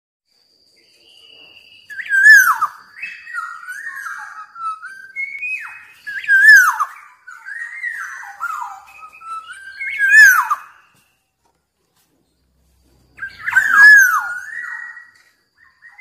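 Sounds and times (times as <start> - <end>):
bird singing fluty whistles: 0.3 - 11.4, 12.4 - 16.0.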